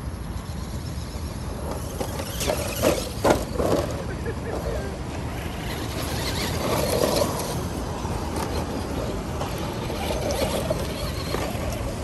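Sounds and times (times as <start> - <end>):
toy truck motor and tyres on gravel: 0.0 - 12.0.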